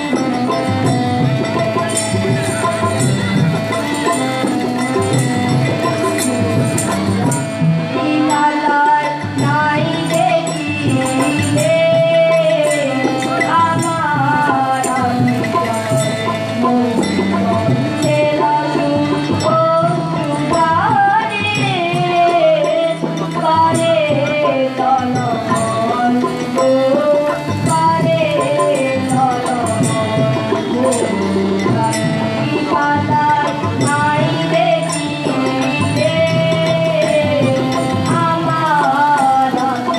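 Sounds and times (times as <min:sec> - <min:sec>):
harmonium: 0:00.0 - 0:39.9
small hand percussion: 0:00.0 - 0:39.9
tabla: 0:00.0 - 0:39.9
woman singing: 0:03.9 - 0:39.9.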